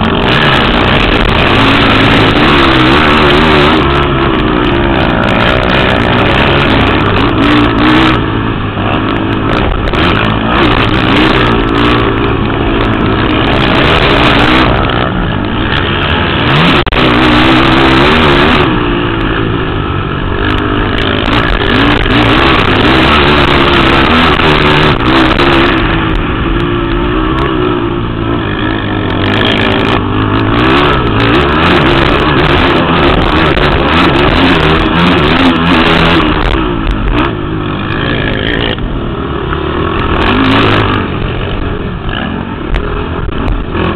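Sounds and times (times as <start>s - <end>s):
quad engines revving: 0.0s - 43.9s.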